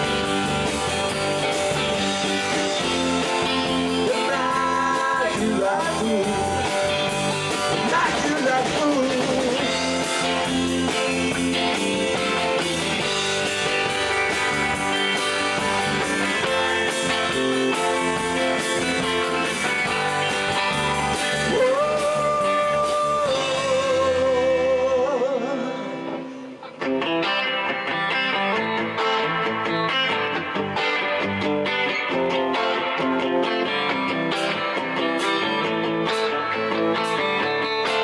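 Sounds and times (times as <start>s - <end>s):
lead guitar bending notes: 0.0s - 38.0s
rock band playing instrumental: 0.0s - 38.0s.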